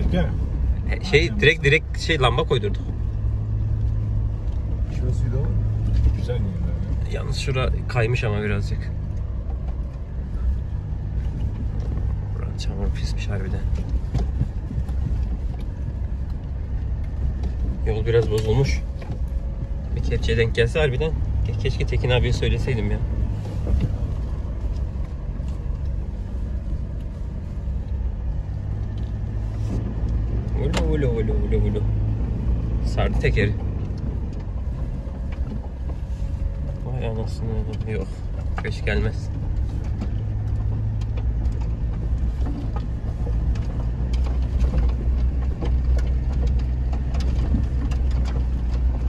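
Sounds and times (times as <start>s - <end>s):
body and suspension knocks and rattles: 0.0s - 49.0s
car engine running under load: 0.0s - 49.0s
tyres rumbling on dirt track: 0.0s - 49.0s.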